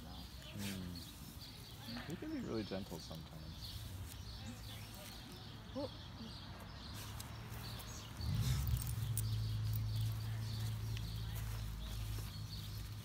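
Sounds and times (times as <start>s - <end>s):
puppies scuffling on grass: 0.0s - 13.0s.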